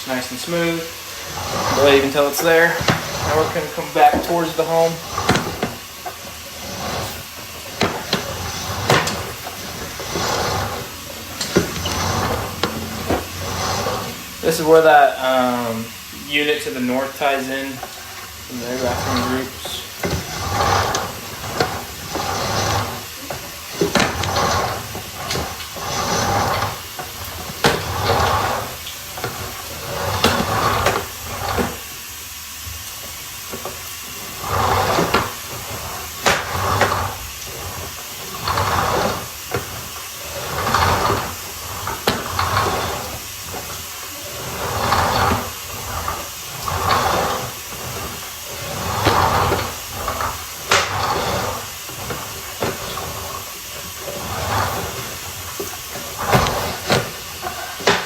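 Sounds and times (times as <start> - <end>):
cable sliding and scraping in pipe: 0.0 - 58.0.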